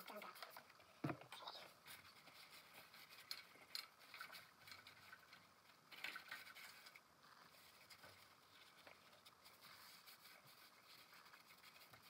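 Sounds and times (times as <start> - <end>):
paper towel rustling: 1.6 - 12.0.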